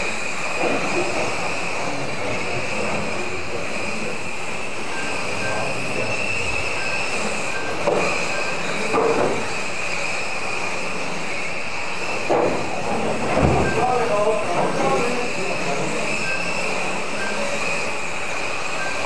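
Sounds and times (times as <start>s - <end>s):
electric toy car motors whining: 0.0s - 19.0s.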